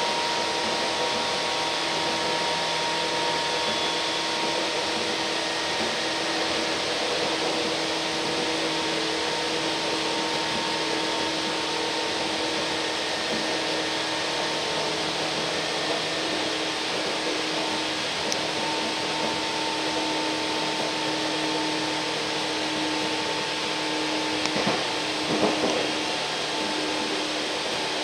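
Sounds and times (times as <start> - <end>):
steady humming tones: 0.0 - 28.0
train wheels and air rushing: 0.0 - 28.0.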